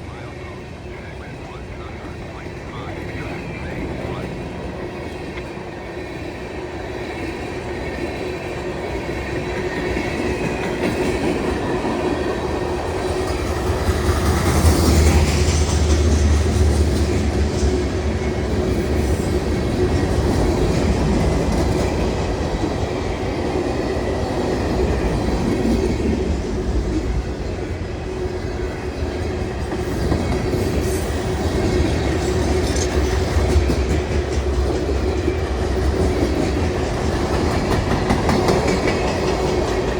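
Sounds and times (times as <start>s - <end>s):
train wheels clickety-clack: 1.1s - 39.9s.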